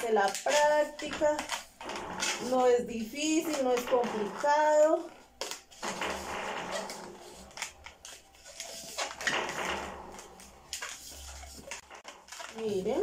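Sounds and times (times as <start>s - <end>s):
balloon rubbing and squeaking: 0.0s - 13.0s.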